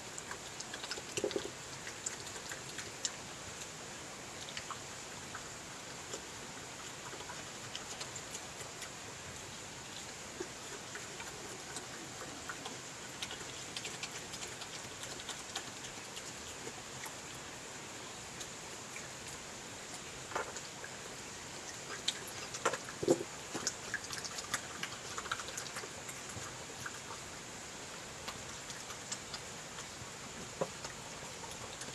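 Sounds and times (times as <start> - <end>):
badger chewing: 0.0 - 31.9
steady hiss: 0.0 - 31.9.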